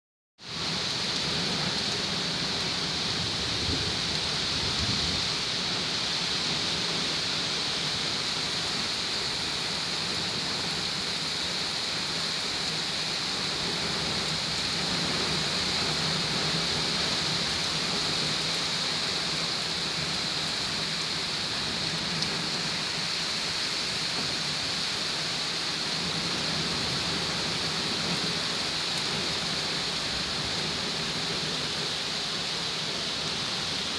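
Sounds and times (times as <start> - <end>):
heavy rain pouring: 0.5 - 33.9.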